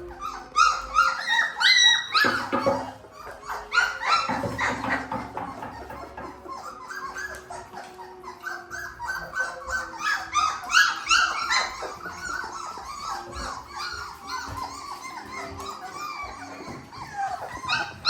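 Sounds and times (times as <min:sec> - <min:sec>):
puppies whining and yelping: 0:00.0 - 0:18.0.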